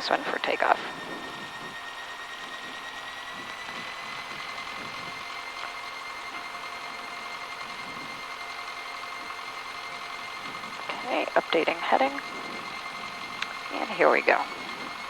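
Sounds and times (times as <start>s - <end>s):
aircraft piston engine droning: 0.0s - 15.0s.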